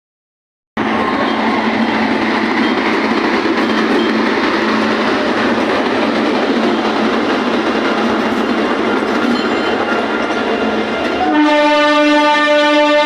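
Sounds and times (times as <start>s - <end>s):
train running along track: 0.8s - 13.0s.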